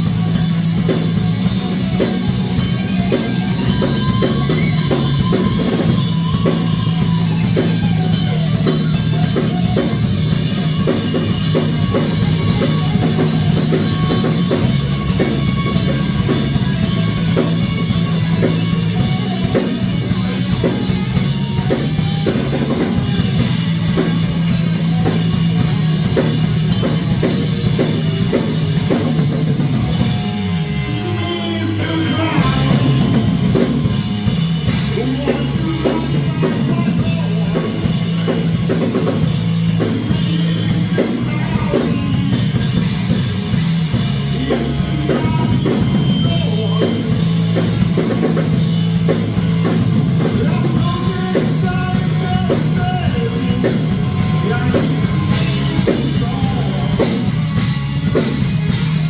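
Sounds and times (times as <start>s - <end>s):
rock music with drums and guitar: 0.0s - 59.0s.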